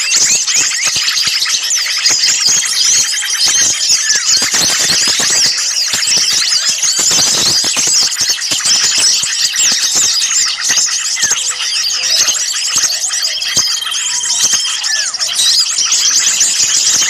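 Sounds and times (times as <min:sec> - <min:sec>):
flock of songbirds chattering: 0:00.0 - 0:17.0.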